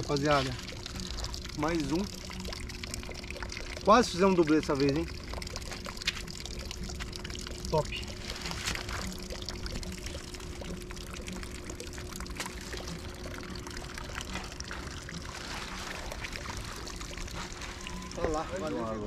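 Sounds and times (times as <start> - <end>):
faint steady hum: 0.0 - 19.0
water pouring and trickling: 0.0 - 19.0.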